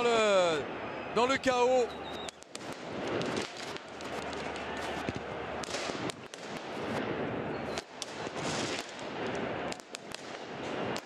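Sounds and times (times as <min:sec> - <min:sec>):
stadium crowd noise: 0:00.0 - 0:11.0
firecrackers banging: 0:02.1 - 0:11.0.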